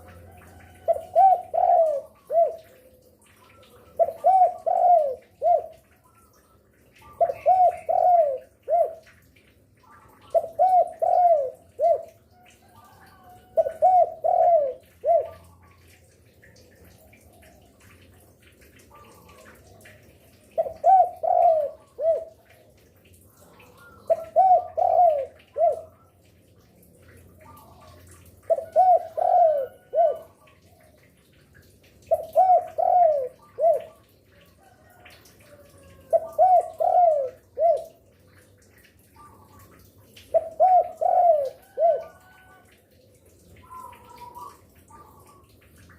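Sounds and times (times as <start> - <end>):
dove cooing: 0.0 - 6.0, 7.0 - 15.8, 18.7 - 22.6, 23.3 - 26.3, 27.4 - 31.0, 32.0 - 38.6, 39.2 - 42.8, 43.5 - 45.6.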